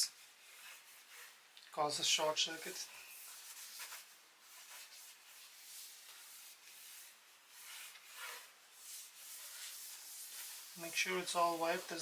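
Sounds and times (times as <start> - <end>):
cloth rubbing laptop casing: 0.0 - 12.0.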